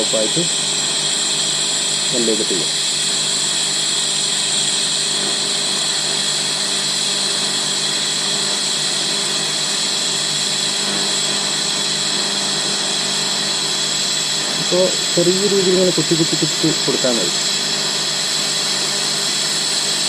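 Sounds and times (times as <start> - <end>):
welding arc hissing and buzzing: 0.0 - 20.0.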